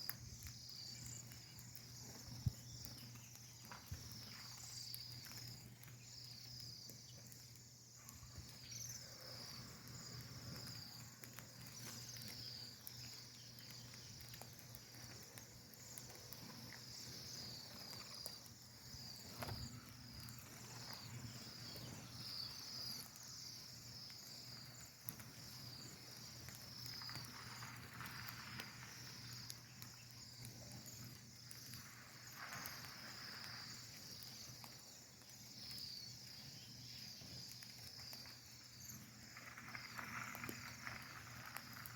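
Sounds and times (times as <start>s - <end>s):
flock of small birds chirping: 0.0s - 41.9s.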